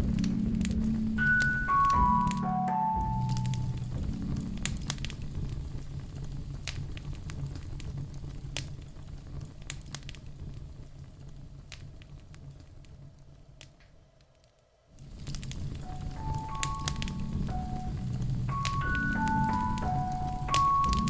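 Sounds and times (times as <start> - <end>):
low steady rumble: 0.0 - 13.5, 15.0 - 21.0
wood fire crackling and popping: 0.0 - 21.0.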